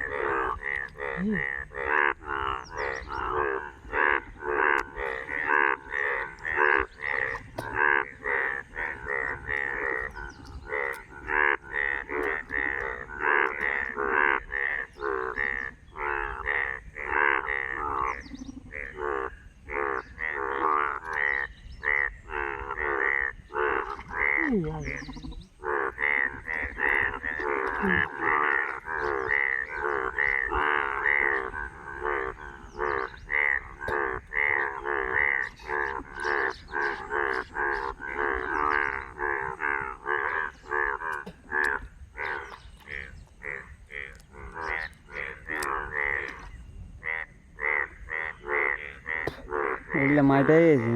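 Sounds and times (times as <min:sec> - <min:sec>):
frogs croaking: 0:00.0 - 0:50.9.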